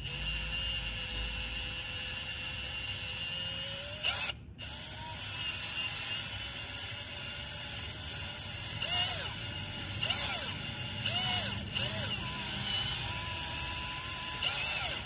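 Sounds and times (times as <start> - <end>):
cordless drill drilling metal: 0.0 - 15.0.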